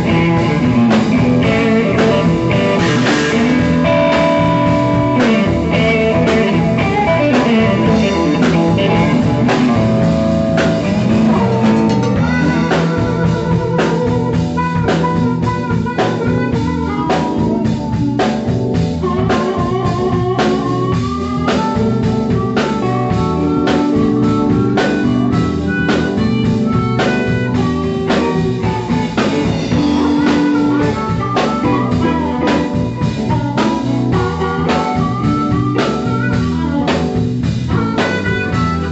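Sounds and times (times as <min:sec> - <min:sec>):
harmonica wavering notes: 0:00.0 - 0:38.9
live blues band playing: 0:00.0 - 0:38.9.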